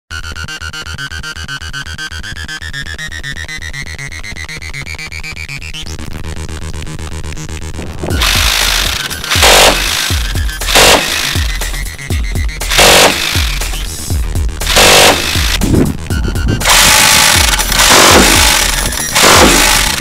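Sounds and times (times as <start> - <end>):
electronic music with pulsing beat: 0.1 - 20.0.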